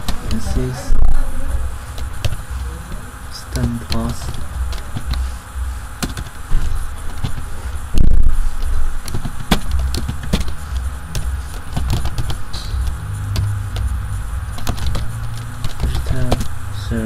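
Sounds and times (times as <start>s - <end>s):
loud steady low rumble: 0.0s - 17.0s.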